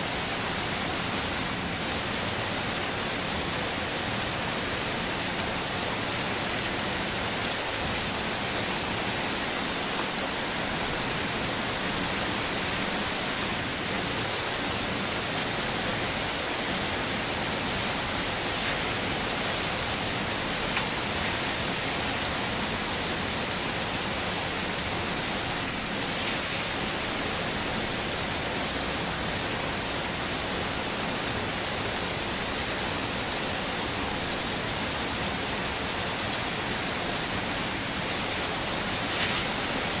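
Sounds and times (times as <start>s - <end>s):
heavy rain hissing: 0.0s - 40.0s.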